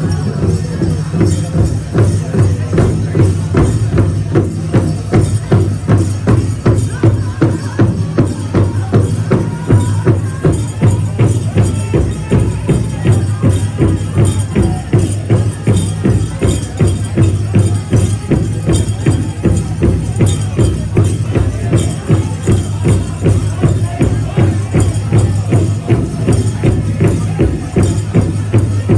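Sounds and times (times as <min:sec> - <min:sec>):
big drum steady beat: 0:00.0 - 0:28.9
singers' voices: 0:00.0 - 0:28.9.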